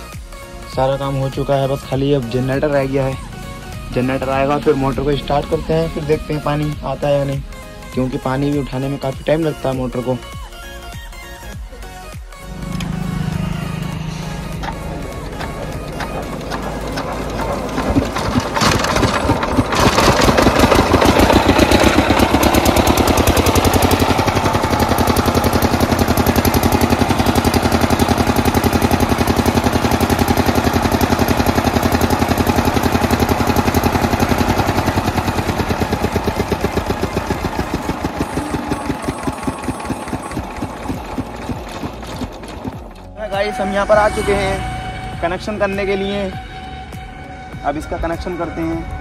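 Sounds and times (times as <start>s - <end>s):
diesel generator engine running: 0.0s - 49.0s.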